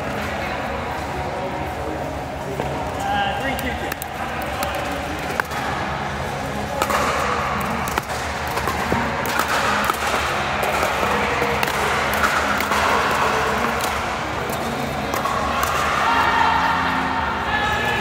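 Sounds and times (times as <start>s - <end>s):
steady background din: 0.0s - 18.0s.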